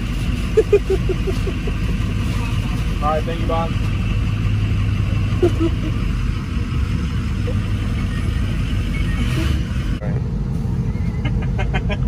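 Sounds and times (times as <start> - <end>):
road noise hiss: 0.0 - 12.0
vehicle engine rumble: 0.0 - 12.0.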